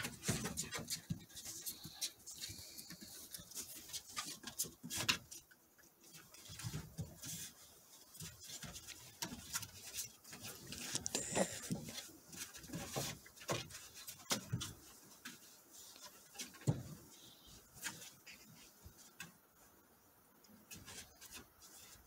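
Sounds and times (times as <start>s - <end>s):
puppies scuffling: 0.0s - 22.0s.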